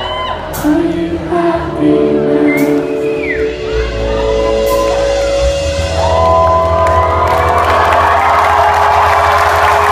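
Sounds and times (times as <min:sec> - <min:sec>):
steady low bass: 0:00.0 - 0:09.8.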